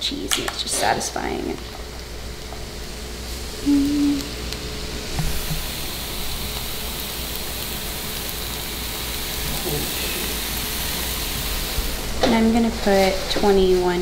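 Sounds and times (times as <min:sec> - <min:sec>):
food sizzling in a skillet: 0:00.8 - 0:14.0.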